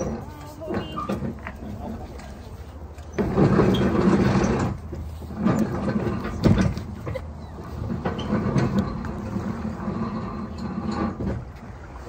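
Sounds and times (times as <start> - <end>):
boat hull scraping against dock: 0.0 - 12.0.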